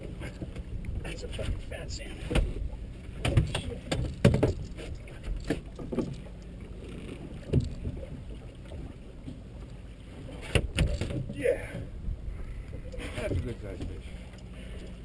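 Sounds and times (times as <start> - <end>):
steady low rumble: 0.0 - 10.3, 11.3 - 15.0.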